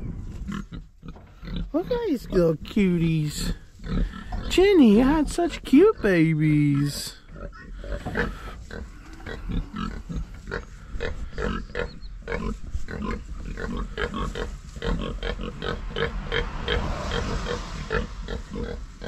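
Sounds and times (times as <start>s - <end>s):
pigs grunting: 0.0s - 19.0s.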